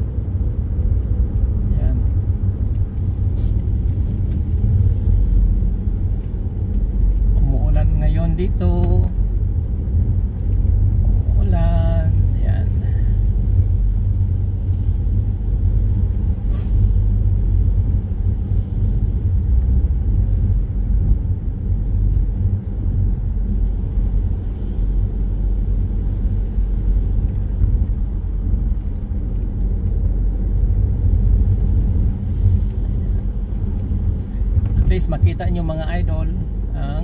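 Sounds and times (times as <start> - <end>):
car engine rumble: 0.0 - 37.0.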